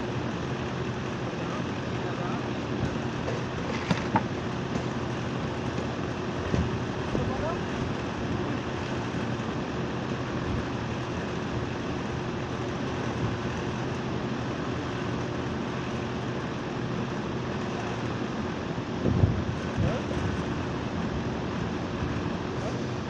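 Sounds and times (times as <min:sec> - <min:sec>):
air conditioner hum with fan noise: 0:00.0 - 0:23.0.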